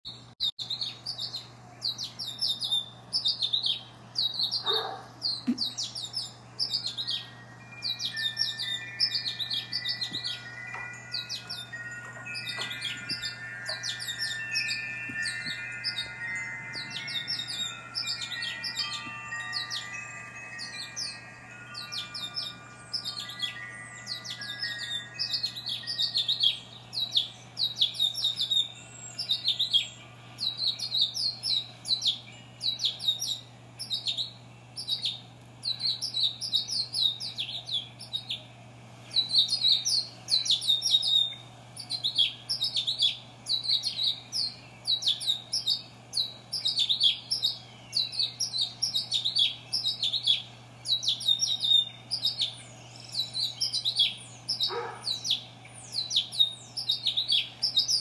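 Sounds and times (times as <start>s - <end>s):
birds chirping: 0.1s - 58.0s.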